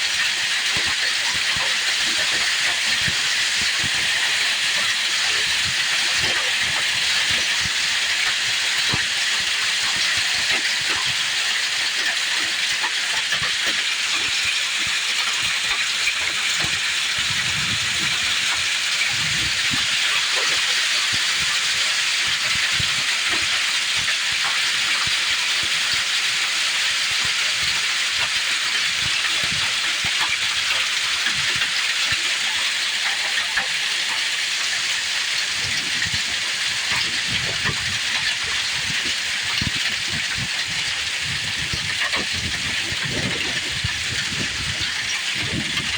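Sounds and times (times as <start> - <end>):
hail and rain pelting down: 0.0 - 45.9.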